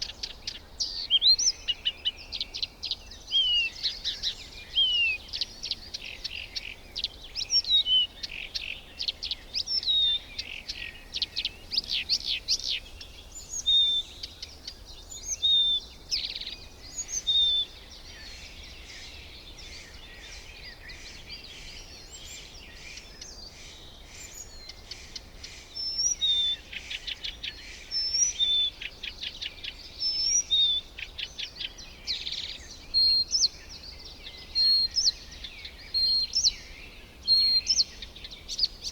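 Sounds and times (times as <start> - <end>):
birds chirping and trilling: 0.0 - 38.9
faint background hiss: 0.0 - 38.9.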